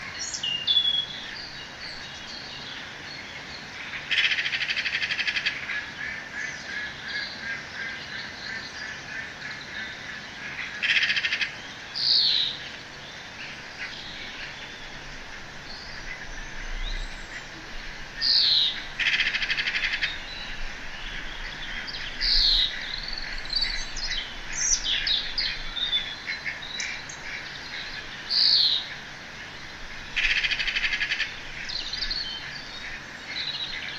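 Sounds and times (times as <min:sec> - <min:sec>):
birds chirping: 0:00.0 - 0:33.9
outdoor hiss: 0:00.0 - 0:33.9.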